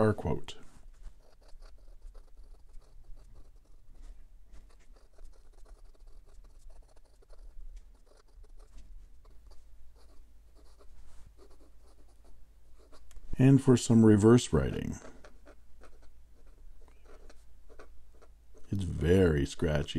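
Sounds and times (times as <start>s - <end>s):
pen nib scratching paper: 0.0s - 19.8s.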